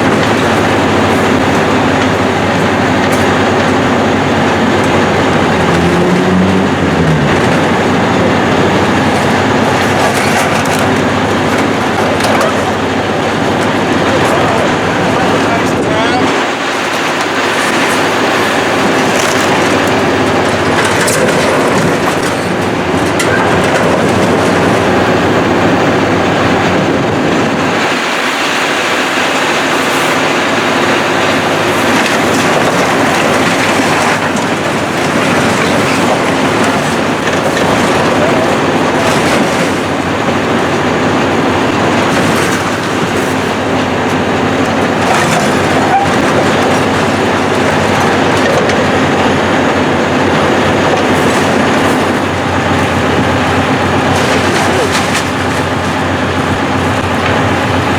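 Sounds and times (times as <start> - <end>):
metal squealing: 0.0 - 25.6, 28.8 - 57.9
debris crunching and clanking: 0.0 - 57.9
heavy machine engine running: 0.0 - 57.9.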